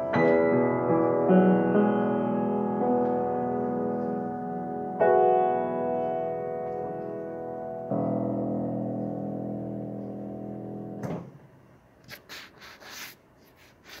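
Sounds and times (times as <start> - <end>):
piano chord: 0.0 - 11.2.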